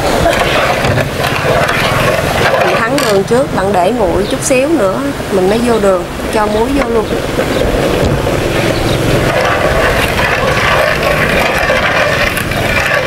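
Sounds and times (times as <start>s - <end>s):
gas burner rushing: 0.0s - 4.3s, 6.1s - 13.0s.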